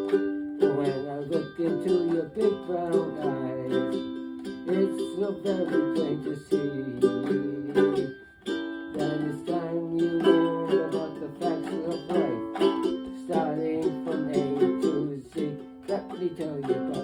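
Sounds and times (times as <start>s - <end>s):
ukulele strumming chords and melody: 0.0s - 17.0s.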